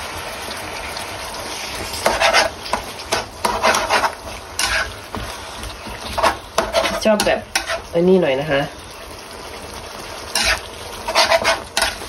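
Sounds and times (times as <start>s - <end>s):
food sizzling in a frying pan: 0.0s - 12.0s
utensil stirring and scraping pan: 1.4s - 12.0s.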